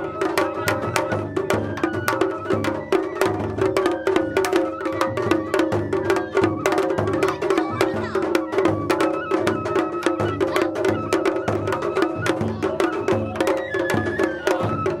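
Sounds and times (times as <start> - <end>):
taiko drums beating fast: 0.0 - 15.0.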